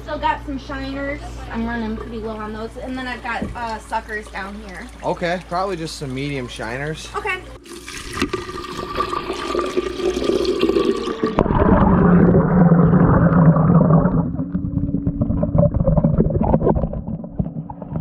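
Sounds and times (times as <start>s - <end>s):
low steady hum: 0.0s - 18.0s
water churning and bubbling: 1.6s - 18.0s.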